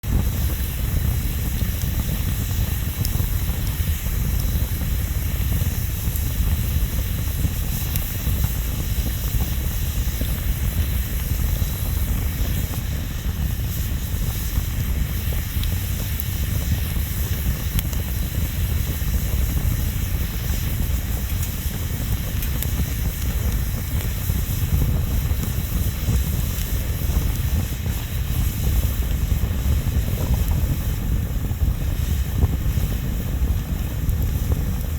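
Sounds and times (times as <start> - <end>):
bonfire rumble and hiss: 0.0 - 34.9
fire crackles: 0.0 - 34.9.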